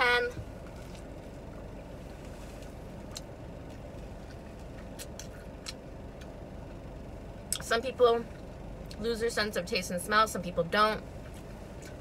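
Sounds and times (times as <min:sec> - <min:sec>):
low hum inside car: 0:00.0 - 0:12.0.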